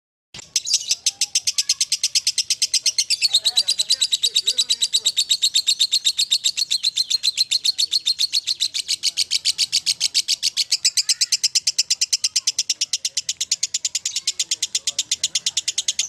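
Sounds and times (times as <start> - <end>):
bird shrill rapid chirping: 0.4 - 16.0.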